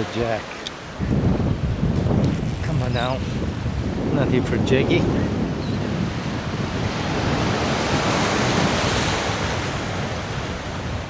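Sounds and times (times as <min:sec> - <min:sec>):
ocean surf washing: 0:00.0 - 0:11.0
wind: 0:00.0 - 0:11.0.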